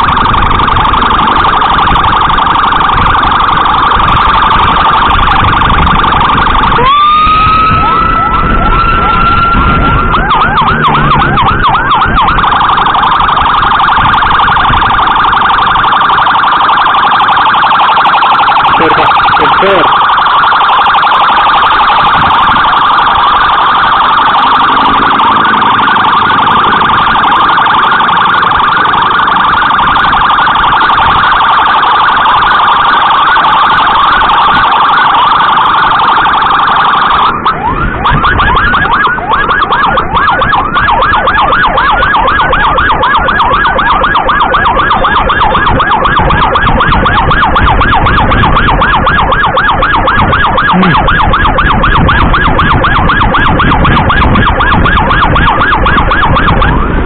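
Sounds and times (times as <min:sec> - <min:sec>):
electronic siren warbling: 0:00.0 - 0:57.0.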